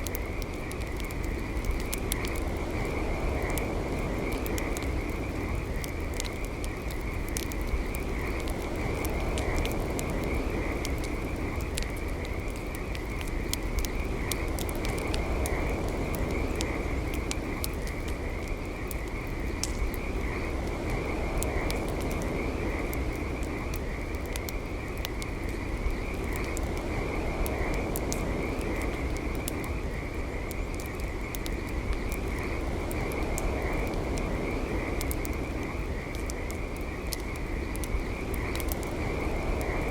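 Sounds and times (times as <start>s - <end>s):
campfire crackling and popping: 0.0s - 39.9s
frogs trilling: 0.0s - 39.9s.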